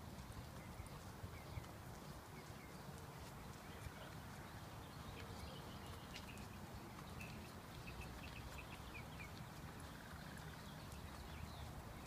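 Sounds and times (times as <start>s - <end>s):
dogs' paws on ground: 0.0s - 12.0s
light footsteps: 0.0s - 12.0s.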